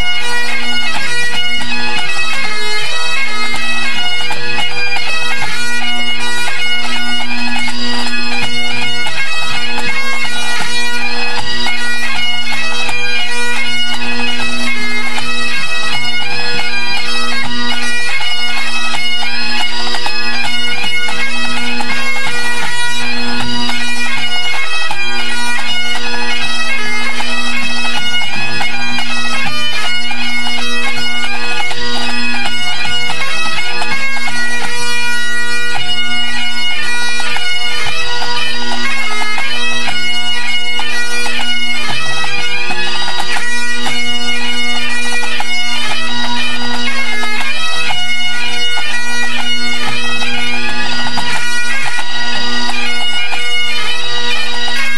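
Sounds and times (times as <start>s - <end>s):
bagpipes playing: 0.0s - 54.9s.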